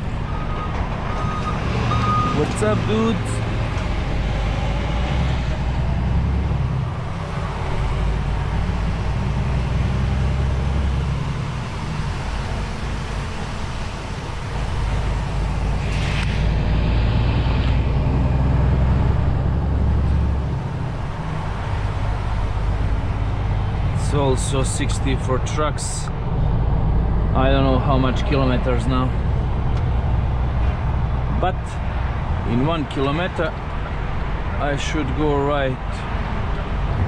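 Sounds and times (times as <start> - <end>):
truck diesel engine droning: 0.0 - 37.0.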